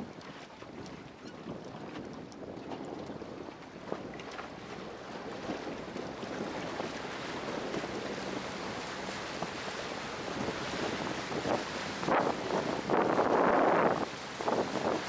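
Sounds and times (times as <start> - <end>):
water rushing along boat hull: 0.0 - 15.0
wind buffeting microphone: 0.0 - 15.0.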